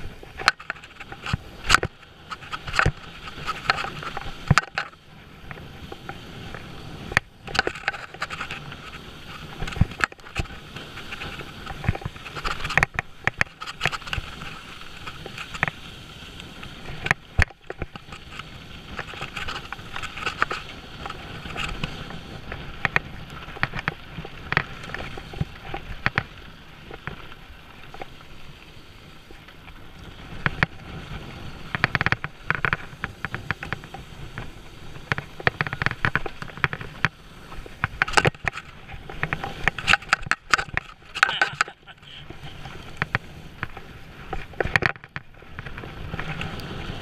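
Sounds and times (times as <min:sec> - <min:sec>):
bike tyres rushing on dirt: 0:00.0 - 0:47.0
bike chain and frame rattling: 0:00.2 - 0:15.8, 0:16.8 - 0:28.1, 0:31.7 - 0:46.5.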